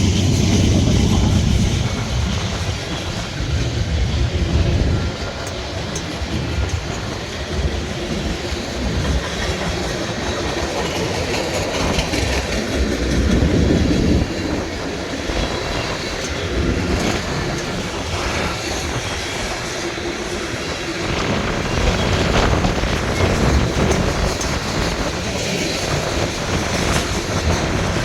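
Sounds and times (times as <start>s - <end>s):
freight train rolling on rails: 0.0s - 28.0s.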